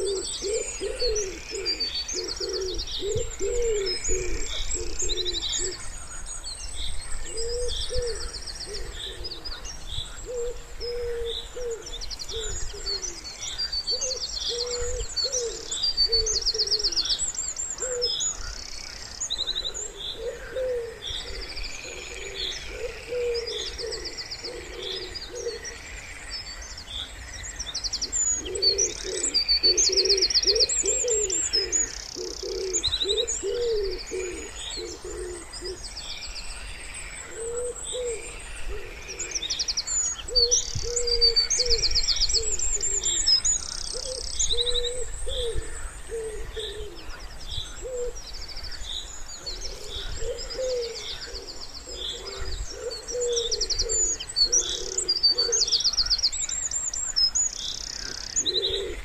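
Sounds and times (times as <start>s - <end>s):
wood pigeons cooing: 0.0s - 5.9s, 7.2s - 18.6s, 19.4s - 25.9s, 28.0s - 35.9s, 36.6s - 39.5s, 40.1s - 48.5s, 49.3s - 56.2s, 57.9s - 59.0s
songbirds chirping and trilling: 0.0s - 59.0s.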